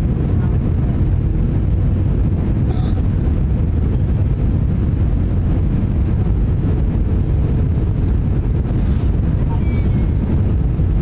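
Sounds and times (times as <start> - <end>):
airplane engines rumbling: 0.0 - 11.0
rushing air: 0.0 - 11.0.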